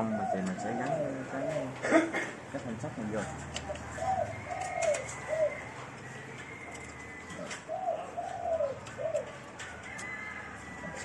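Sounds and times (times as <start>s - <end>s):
dove cooing: 0.0s - 2.2s, 3.4s - 11.0s.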